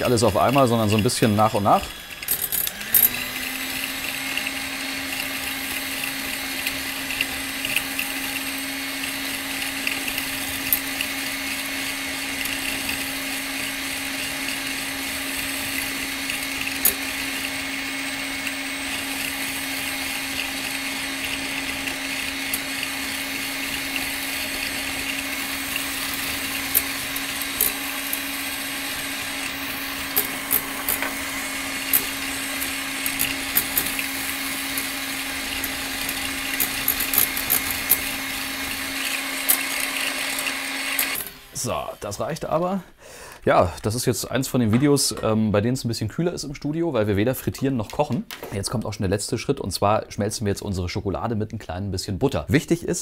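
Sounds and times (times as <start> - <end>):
electric mixer running: 0.0 - 42.5.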